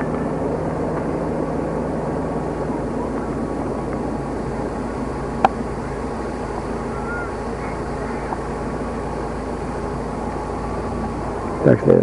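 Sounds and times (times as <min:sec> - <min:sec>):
low hum: 0:00.0 - 0:12.0
outdoor background hiss: 0:00.0 - 0:12.0.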